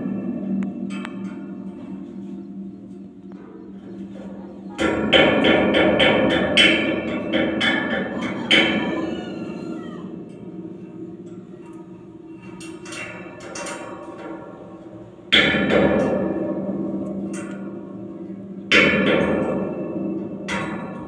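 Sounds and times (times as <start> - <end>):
steel impeller struck ringing: 0.0 - 9.5, 10.1 - 21.0.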